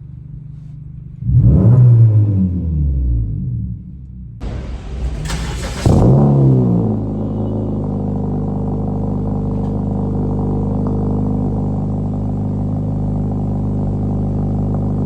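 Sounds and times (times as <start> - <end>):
car exhaust revving and idling: 0.0 - 15.0.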